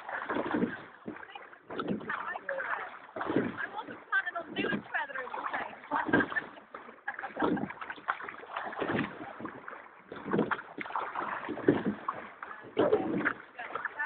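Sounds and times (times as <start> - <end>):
oars splashing through water: 0.0 - 14.0.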